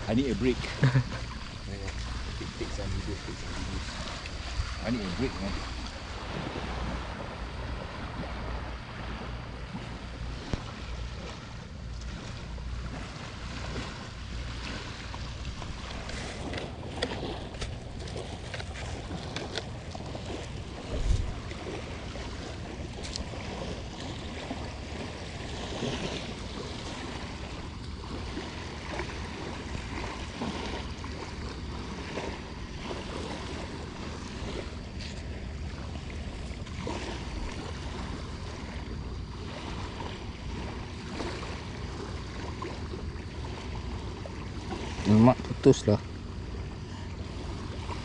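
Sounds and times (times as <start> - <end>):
wind buffeting microphone: 0.0 - 45.6
surf washing on sand: 0.0 - 48.0.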